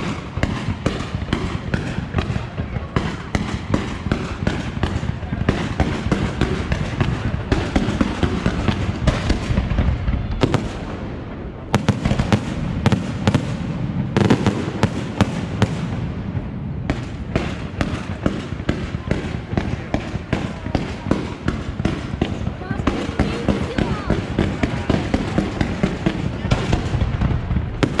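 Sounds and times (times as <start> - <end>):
fireworks bursting and crackling: 0.0 - 28.0
sharp fireworks bangs: 0.0 - 28.0.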